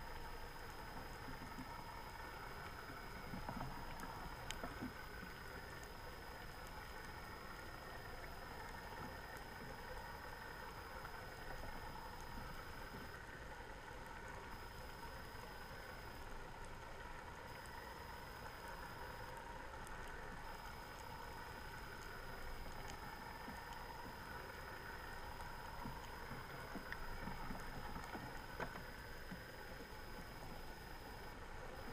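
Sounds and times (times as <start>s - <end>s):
faint clicks: 0.1s - 13.4s, 14.5s - 31.9s.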